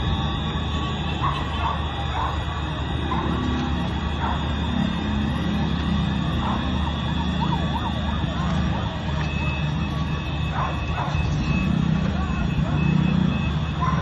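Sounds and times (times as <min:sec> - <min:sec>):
distant sirens: 0:00.0 - 0:14.0.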